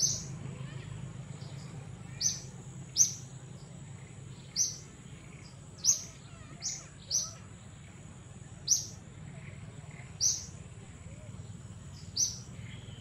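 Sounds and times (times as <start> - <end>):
forest birds chirping: 0.0 - 13.0
low background hum: 0.0 - 13.0.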